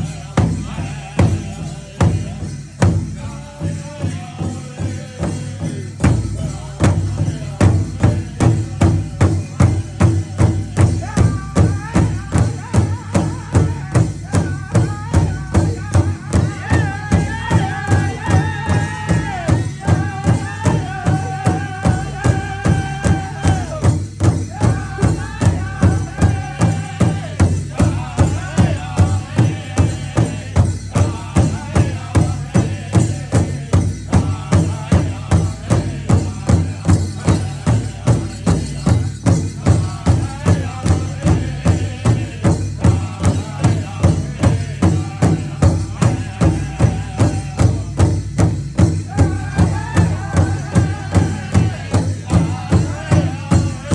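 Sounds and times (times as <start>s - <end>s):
drum beating steadily: 0.0s - 53.9s
high held singing: 0.0s - 53.9s.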